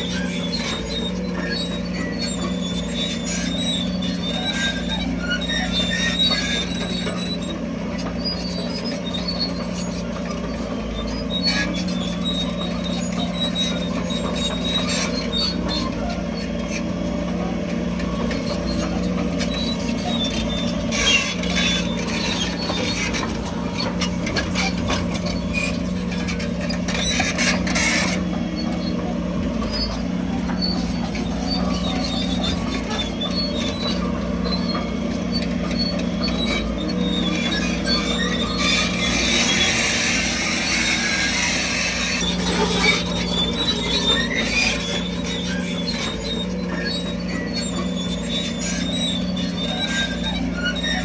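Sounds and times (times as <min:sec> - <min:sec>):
bulldozer diesel engine running: 0:00.0 - 0:51.0
machinery squeaks and clicks: 0:00.0 - 0:51.0
machinery clattering: 0:00.1 - 0:51.0.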